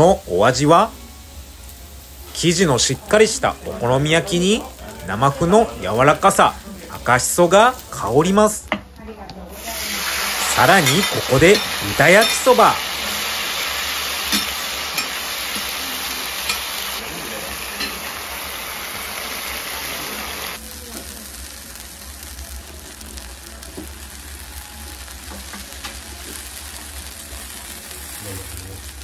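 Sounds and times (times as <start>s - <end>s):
noodles sizzling on griddle: 0.0s - 8.6s, 9.5s - 29.0s.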